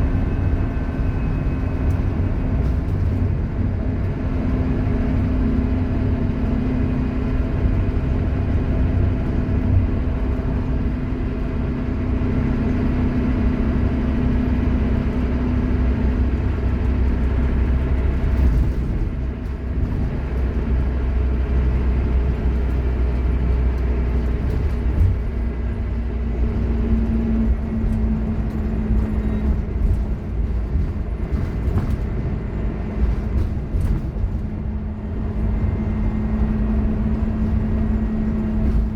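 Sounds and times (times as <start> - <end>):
bus engine rumble: 0.0 - 38.9.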